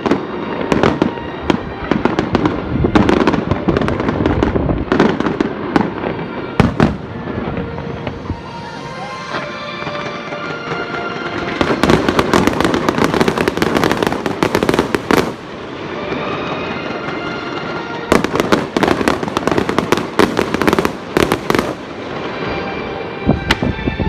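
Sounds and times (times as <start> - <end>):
background music: 0.0 - 24.0
fireworks crackling: 0.0 - 24.0.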